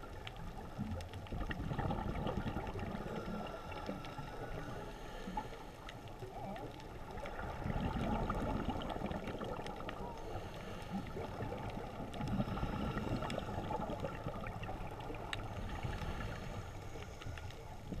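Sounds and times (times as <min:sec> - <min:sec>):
faint underwater clicks: 0:00.0 - 0:18.0
underwater rushing water: 0:00.0 - 0:18.0.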